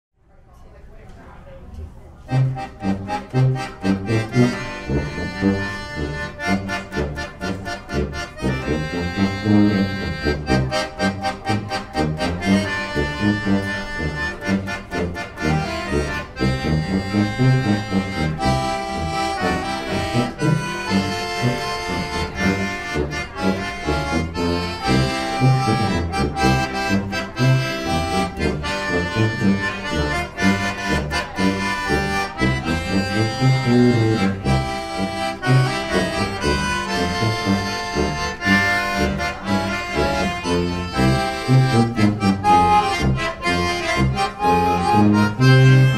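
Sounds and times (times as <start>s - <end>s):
accordion melody: 2.3s - 45.9s
tuba bass line: 2.3s - 45.9s.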